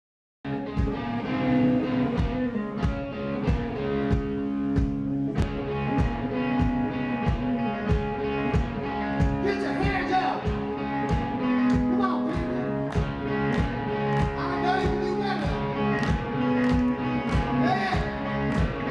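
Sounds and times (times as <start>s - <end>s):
electric guitars: 0.5s - 18.9s
drum beat: 0.7s - 1.2s, 2.2s - 18.9s.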